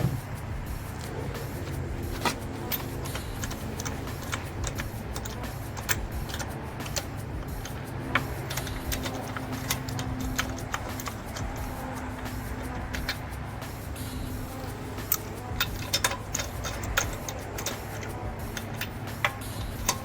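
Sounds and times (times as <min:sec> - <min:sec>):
metallic clicks of hand tools: 0:00.0 - 0:20.0
steady low rumble: 0:00.0 - 0:20.0.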